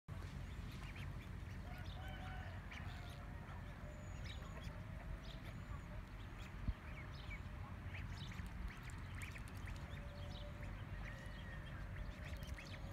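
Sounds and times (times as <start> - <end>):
duckling peeping: 0.4 - 12.9.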